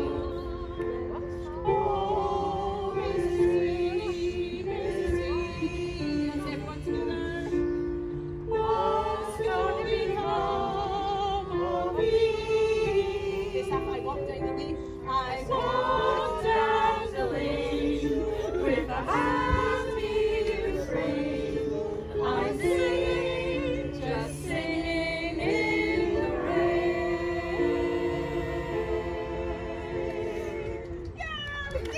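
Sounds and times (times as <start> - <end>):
choir singing: 0.0 - 31.2.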